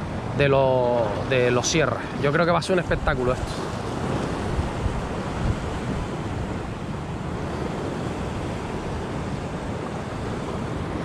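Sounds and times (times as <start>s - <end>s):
ocean waves washing in: 0.0s - 11.0s
wind on microphone: 0.0s - 11.0s.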